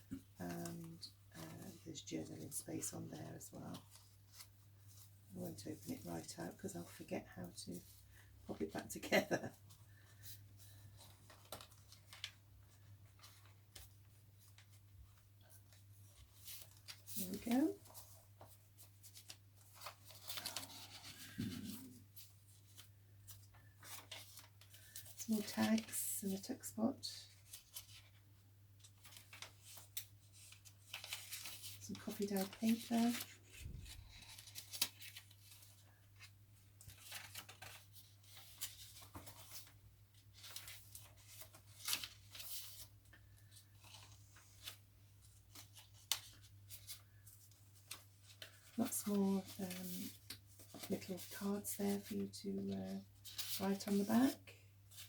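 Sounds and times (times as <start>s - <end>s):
paper pages rustling: 9.6s - 26.4s, 27.3s - 55.0s.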